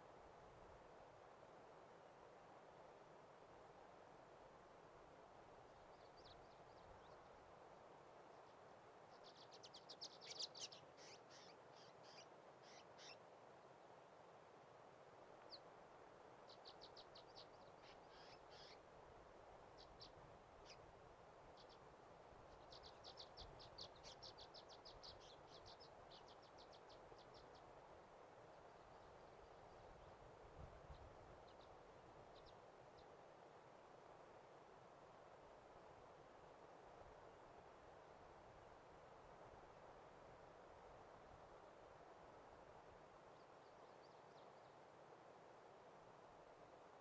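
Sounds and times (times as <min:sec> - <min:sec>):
faint steady hiss: 0:00.0 - 0:47.0.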